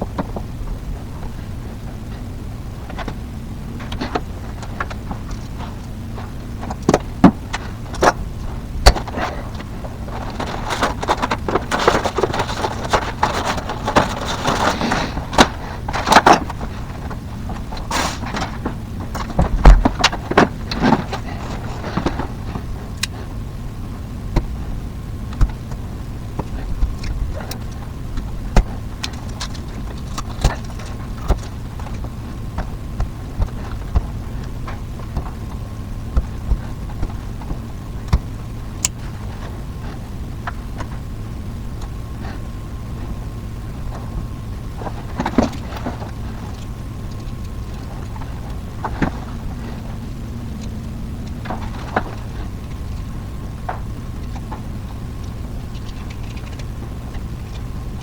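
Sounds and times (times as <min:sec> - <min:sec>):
rustling: 0:00.0 - 0:58.0
steady low hum: 0:00.0 - 0:58.0.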